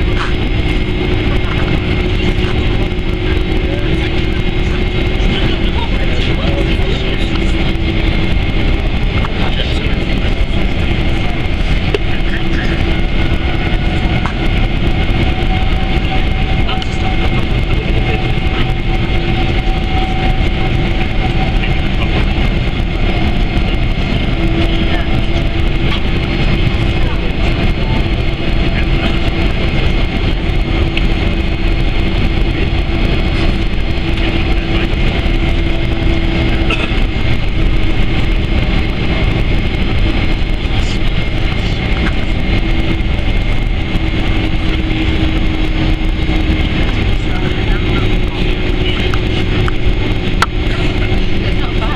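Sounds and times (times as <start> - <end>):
jet engines taxiing hum and whine: 0.0 - 51.9.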